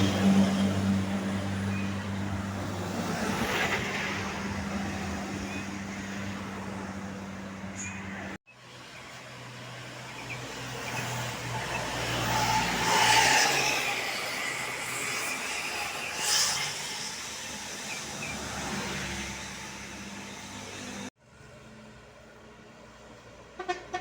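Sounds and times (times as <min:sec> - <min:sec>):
buses passing by: 0:00.0 - 0:24.0.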